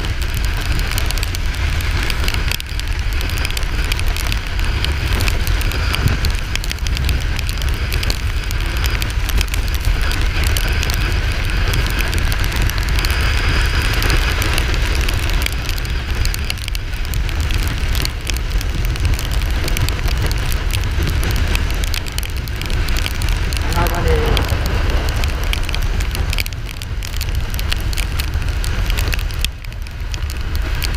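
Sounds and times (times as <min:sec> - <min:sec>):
road noise: 0:00.0 - 0:30.9
wind buffeting microphone: 0:00.0 - 0:30.9.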